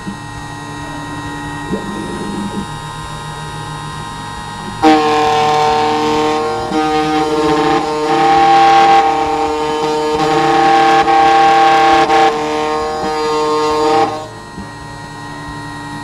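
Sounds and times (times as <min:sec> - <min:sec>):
key cutting machine whining: 0:00.0 - 0:16.0.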